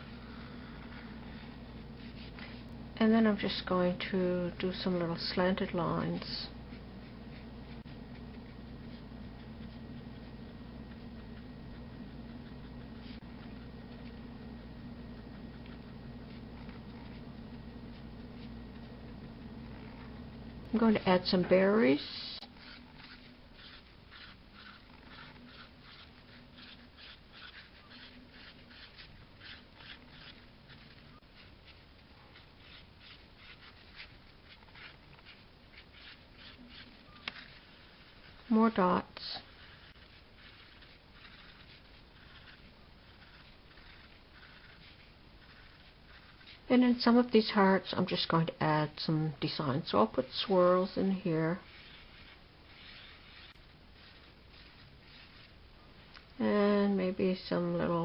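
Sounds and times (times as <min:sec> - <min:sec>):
pen scratching on paper: 0:00.0 - 0:55.6
low steady hum: 0:00.0 - 0:58.0.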